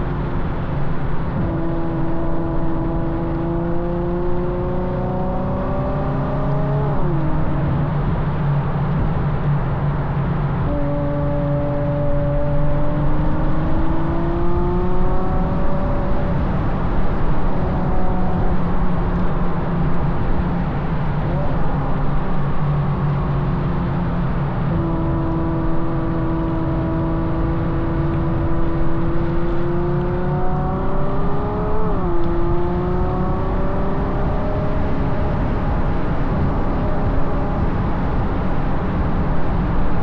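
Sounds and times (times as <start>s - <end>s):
car engine accelerating: 0.0s - 40.0s
wind and road rumble: 0.0s - 40.0s.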